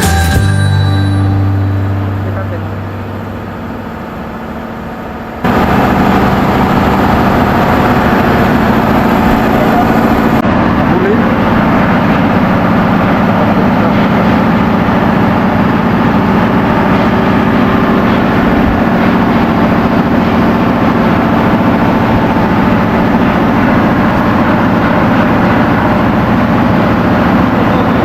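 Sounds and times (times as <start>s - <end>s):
ship diesel engines droning: 0.0s - 28.0s.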